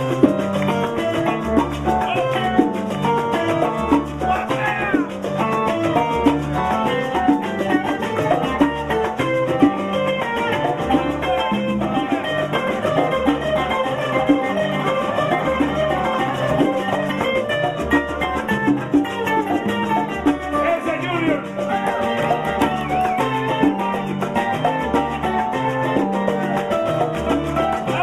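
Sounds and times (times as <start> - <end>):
bass line: 0.0 - 28.0
percussion: 0.0 - 28.0
plucked acoustic string lead: 0.0 - 28.0.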